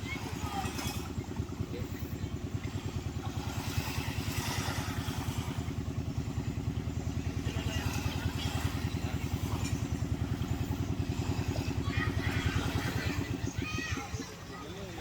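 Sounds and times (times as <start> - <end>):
jet ski engine throbbing: 0.0 - 15.0.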